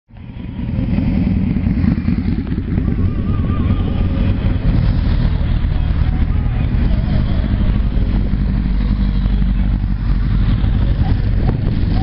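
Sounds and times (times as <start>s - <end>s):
motorcycles riding past: 0.1s - 12.0s.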